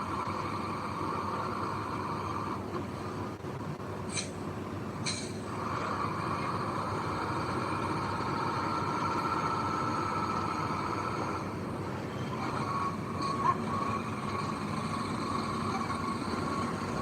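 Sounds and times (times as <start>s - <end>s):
heavy machinery engine: 0.0s - 17.0s.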